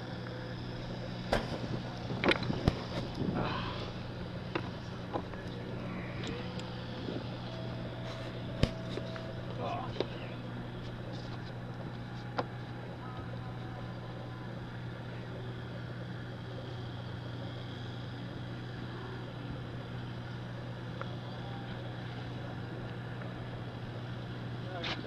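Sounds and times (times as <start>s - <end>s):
outboard motor idling: 0.0s - 25.0s.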